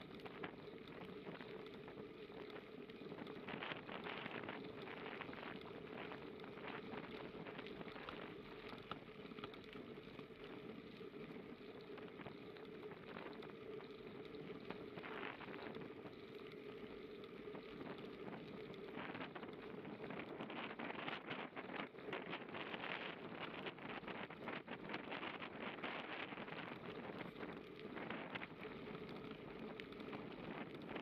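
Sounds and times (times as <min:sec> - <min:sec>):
bicycle tyres rolling on gravel: 0:00.0 - 0:31.0.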